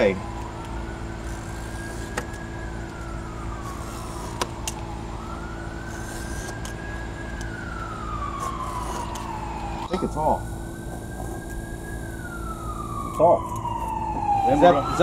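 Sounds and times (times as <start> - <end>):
siren wailing: 0.0 - 15.0
steady low hum: 0.0 - 15.0.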